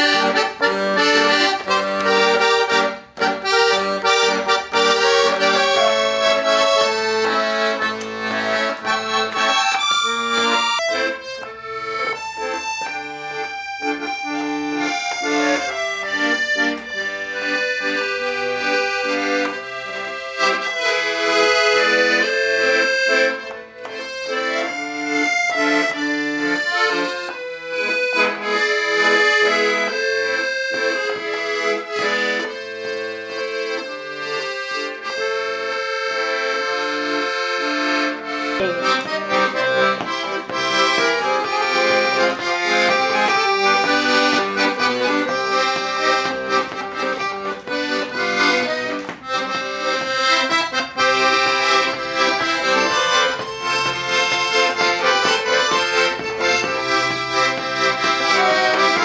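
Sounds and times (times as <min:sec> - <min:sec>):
accordion playing a tune: 0:00.0 - 0:59.0.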